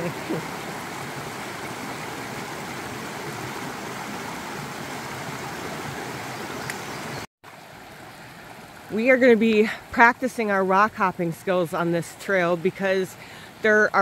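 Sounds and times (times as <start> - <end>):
creek flowing over rocks: 0.0 - 14.0.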